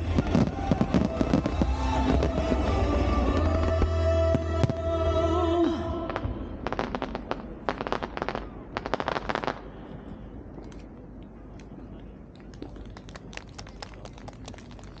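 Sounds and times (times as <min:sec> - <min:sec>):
fireworks crackling: 0:00.0 - 0:09.8, 0:11.6 - 0:15.0.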